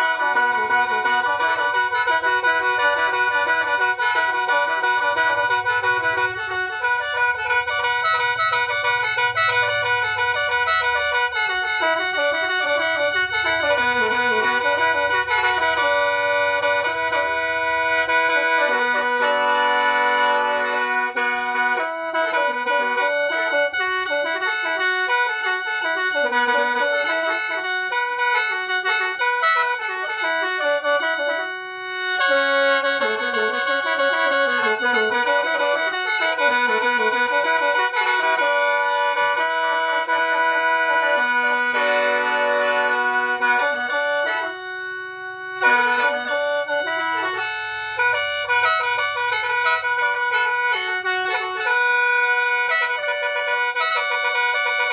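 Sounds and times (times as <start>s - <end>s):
bamboo mouth organ playing: 0.0s - 54.9s.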